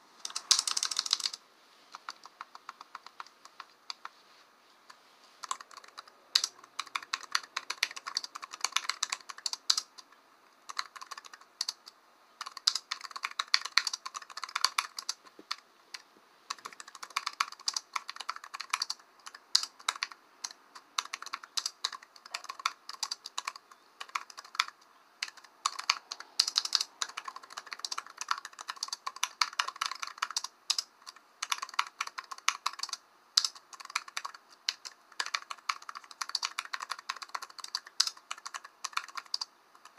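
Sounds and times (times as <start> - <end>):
computer keyboard typing: 0.2 - 4.2, 5.4 - 39.9.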